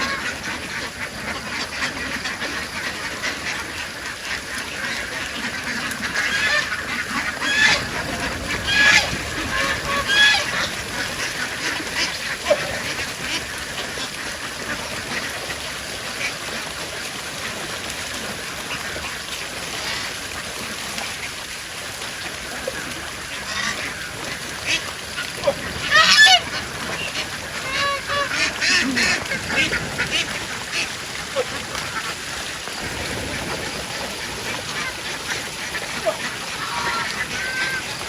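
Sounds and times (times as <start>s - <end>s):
ducks quacking: 0.0s - 38.0s.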